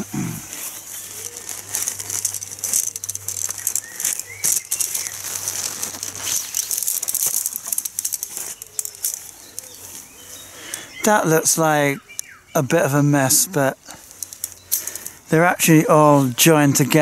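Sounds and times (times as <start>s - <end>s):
nylon bag rustling: 0.0s - 17.0s
tent pole sections clicking: 0.0s - 17.0s.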